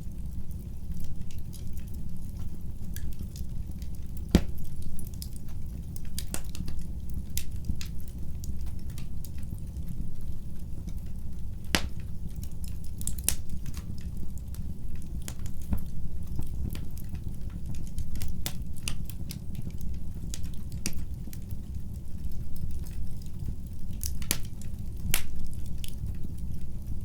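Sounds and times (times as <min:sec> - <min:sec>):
fire crackling and popping: 0:00.0 - 0:27.0
fire rumbling: 0:00.0 - 0:27.0.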